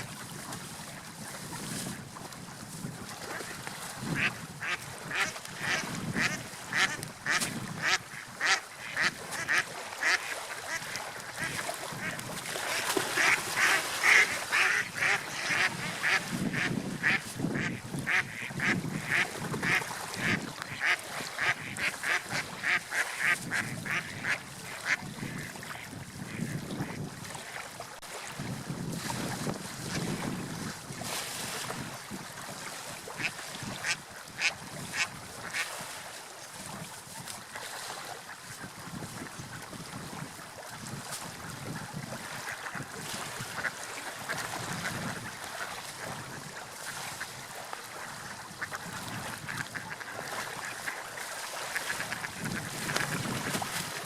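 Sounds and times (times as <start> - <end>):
water: 0.0 - 54.0
wind: 0.0 - 54.0.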